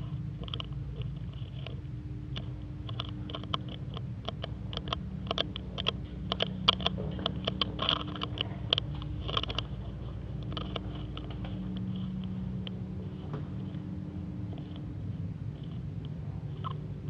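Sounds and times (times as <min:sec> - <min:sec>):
sharp clicks and knocks: 0:00.0 - 0:14.9
steady low hum: 0:00.0 - 0:17.0.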